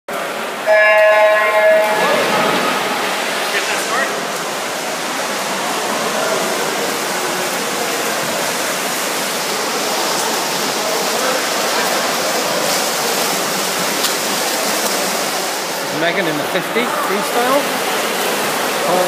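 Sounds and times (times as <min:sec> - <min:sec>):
swimmers splashing and kicking: 0:00.1 - 0:19.0.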